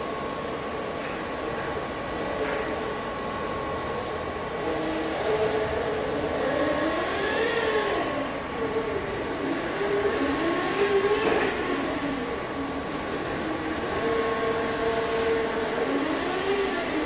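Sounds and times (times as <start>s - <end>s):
steady high hum: 0.0s - 17.0s.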